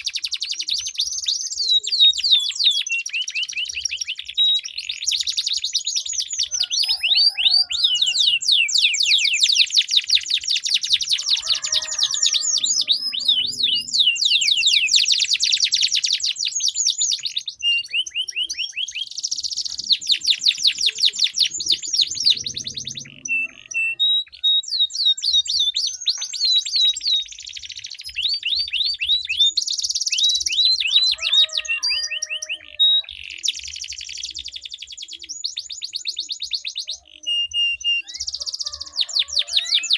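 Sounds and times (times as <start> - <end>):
canaries singing rolling trills: 0.0 - 39.9.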